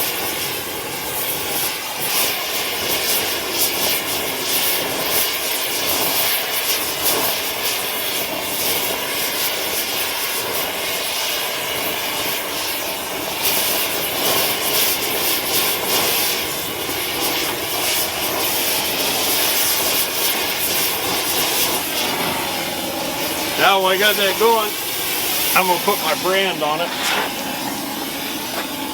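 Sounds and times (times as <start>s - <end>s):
torch flame rushing and crackling: 0.0s - 28.9s.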